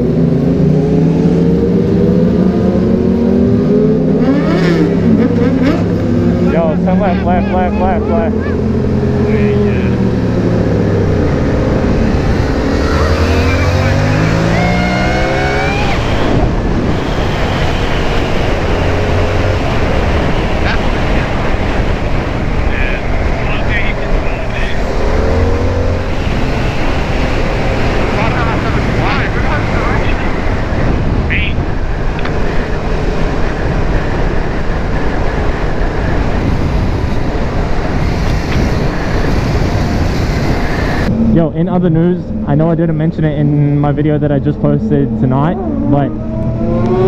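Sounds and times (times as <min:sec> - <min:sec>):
wind rushing past: 0:00.0 - 0:41.6
motorcycle engine revving: 0:00.0 - 0:47.0.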